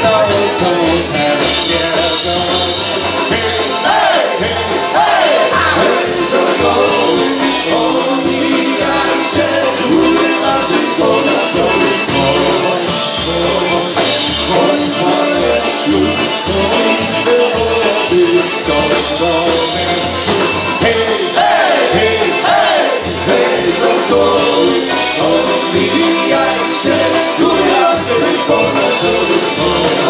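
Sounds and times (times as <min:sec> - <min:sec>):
accordion: 0:00.0 - 0:30.0
bouncing bass beat: 0:00.0 - 0:30.0
polka band playing: 0:00.0 - 0:30.0
trumpet: 0:00.0 - 0:30.0.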